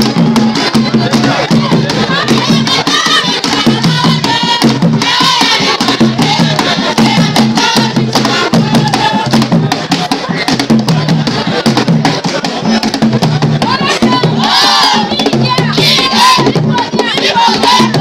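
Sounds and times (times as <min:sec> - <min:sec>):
drum ensemble playing: 0:00.0 - 0:18.0.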